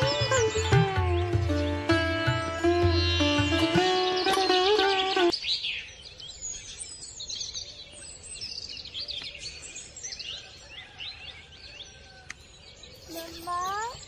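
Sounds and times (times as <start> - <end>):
birds singing and chirping: 0.0 - 14.0.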